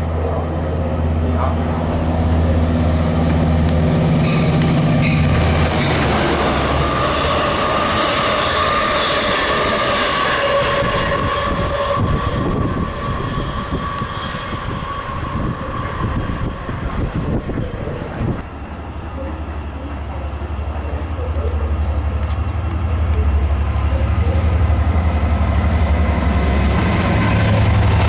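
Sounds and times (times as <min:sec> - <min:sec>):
train motor hum and whine: 0:00.0 - 0:28.0.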